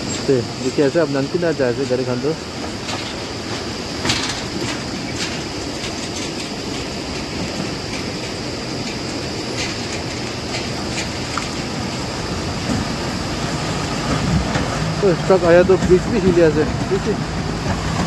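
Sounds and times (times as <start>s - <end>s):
vehicles rumbling on wet road: 0.0s - 18.0s.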